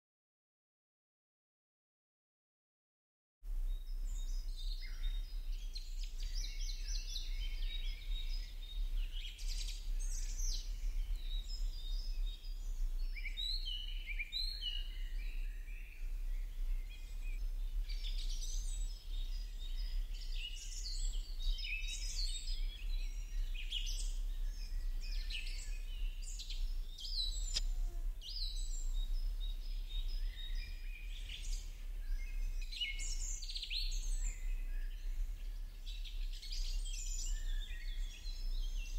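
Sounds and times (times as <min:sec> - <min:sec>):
small birds chirping: 0:03.6 - 0:38.9.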